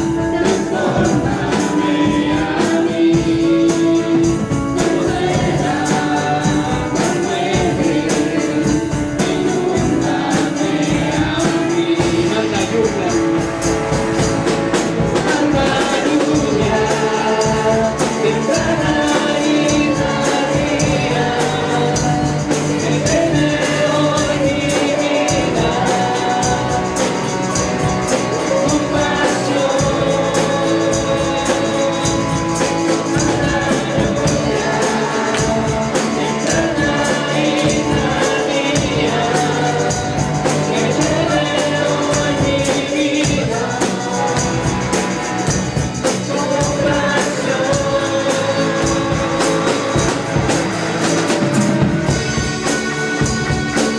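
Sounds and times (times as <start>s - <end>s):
band playing: 0.0s - 53.9s
group of voices singing: 0.0s - 53.9s
tambourine shaken: 0.0s - 53.9s.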